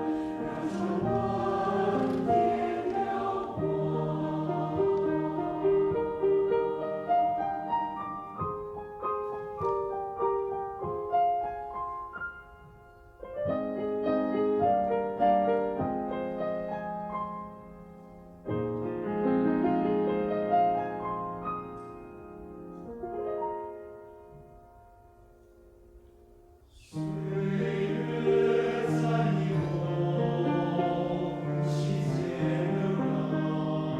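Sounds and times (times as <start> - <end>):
slow gentle solo piano: 0.0 - 33.9.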